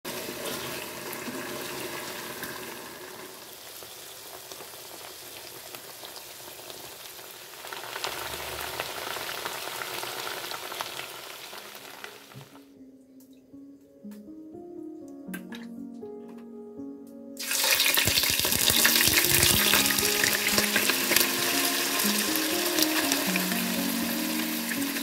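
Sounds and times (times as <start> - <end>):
meat sizzling in a wok: 0.1 - 12.5, 17.4 - 25.0.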